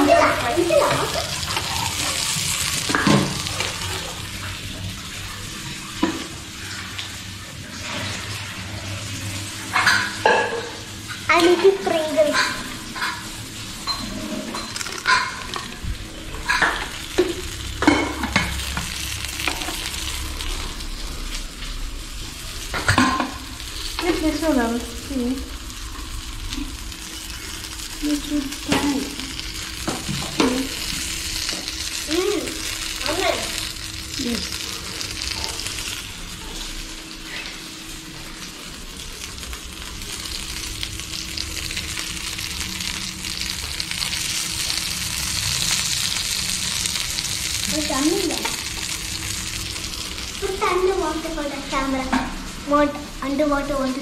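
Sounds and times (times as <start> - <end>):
fish sizzling in oil: 0.0 - 54.0.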